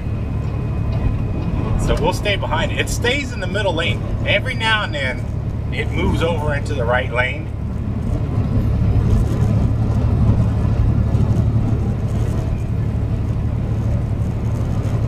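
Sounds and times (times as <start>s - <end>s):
road and tyre noise: 0.0s - 15.0s
truck diesel engine drone: 0.0s - 15.0s.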